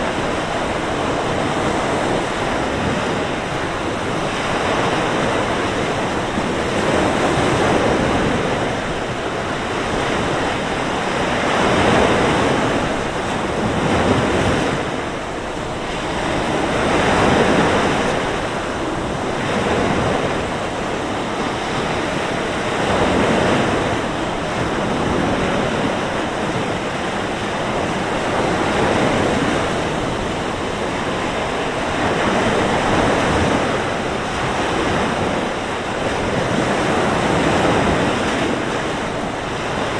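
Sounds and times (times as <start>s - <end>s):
waves breaking on beach: 0.0s - 39.9s
wind blowing: 0.0s - 39.9s.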